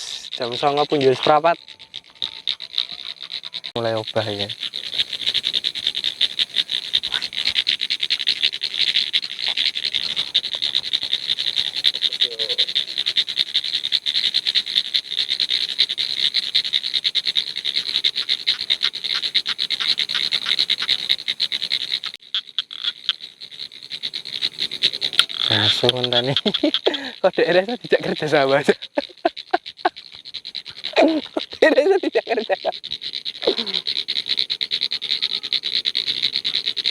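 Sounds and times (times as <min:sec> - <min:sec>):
frogs calling: 0:00.0 - 0:36.9.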